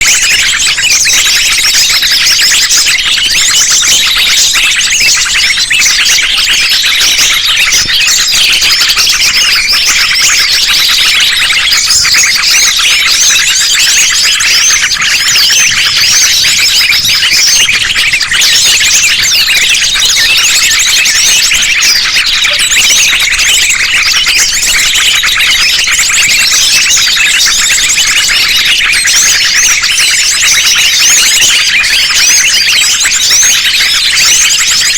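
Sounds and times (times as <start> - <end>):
chorus of songbird calls: 0.0 - 34.9.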